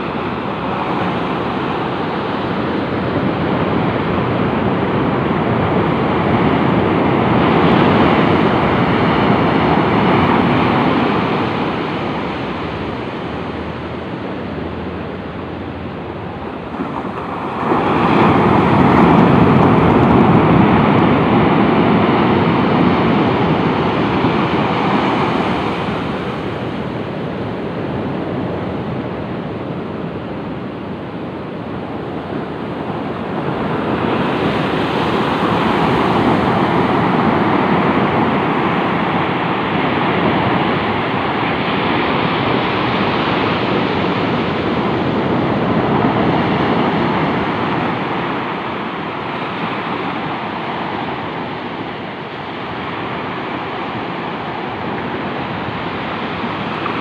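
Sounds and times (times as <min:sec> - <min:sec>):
surf breaking on beach: 0:00.0 - 0:57.0.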